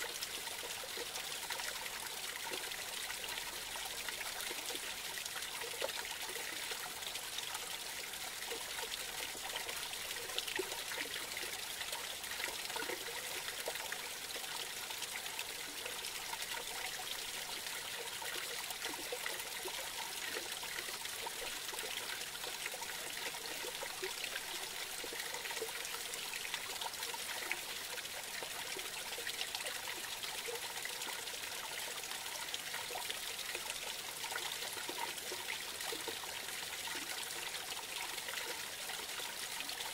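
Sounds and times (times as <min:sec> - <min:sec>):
creek trickling over cascade: 0:00.0 - 0:39.9.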